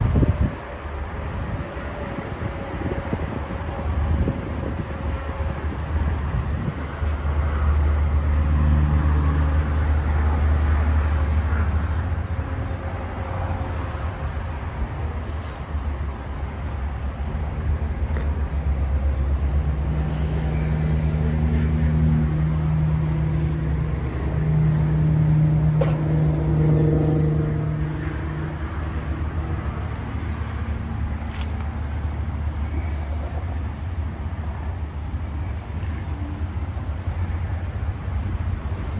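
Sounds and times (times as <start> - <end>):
pitched engine hum: 0.0 - 38.9
traffic noise: 0.0 - 38.9.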